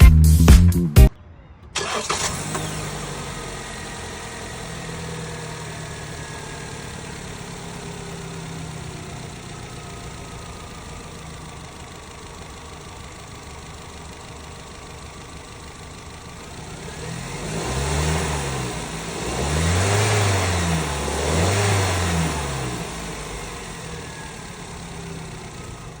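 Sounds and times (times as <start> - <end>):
pickup engine idling and revving: 1.8 - 26.0.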